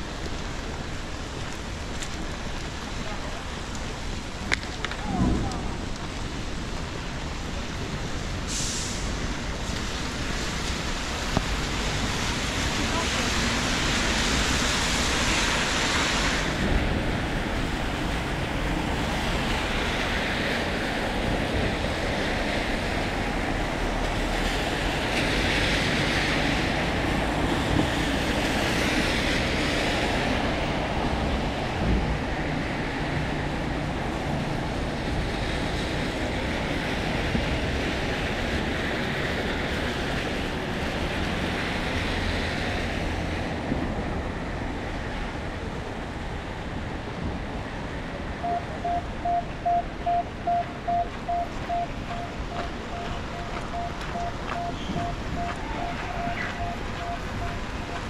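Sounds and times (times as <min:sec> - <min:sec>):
rain hiss on street: 0:00.0 - 0:58.0.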